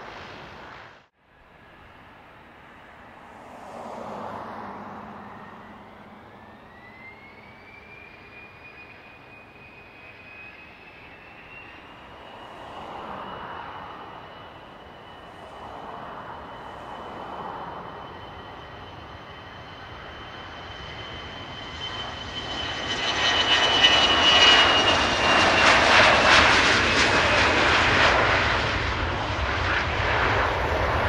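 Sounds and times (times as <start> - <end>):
airplane engine running: 0.0 - 31.0
thin engine whine: 0.0 - 31.0.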